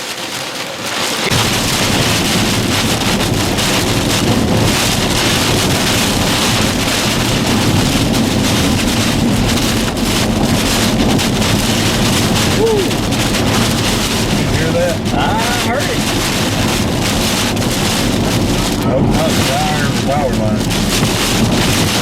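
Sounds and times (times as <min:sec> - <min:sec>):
rain hissing: 0:00.0 - 0:22.0
wind blowing across microphone: 0:00.0 - 0:22.0.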